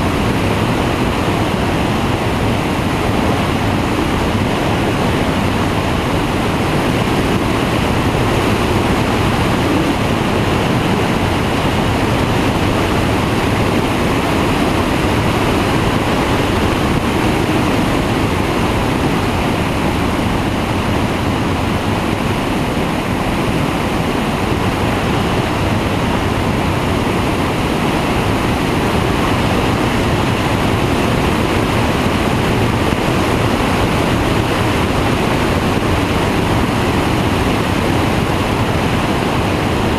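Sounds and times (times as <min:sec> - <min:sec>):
engine and propeller drone: 0:00.0 - 0:39.9
wind rushing: 0:00.0 - 0:39.9.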